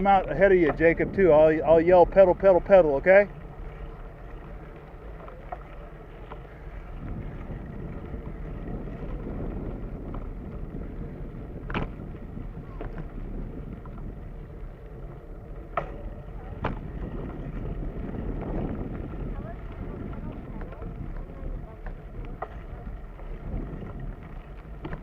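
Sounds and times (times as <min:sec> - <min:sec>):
bicycle tyres rumbling on dirt: 0:00.0 - 0:25.0.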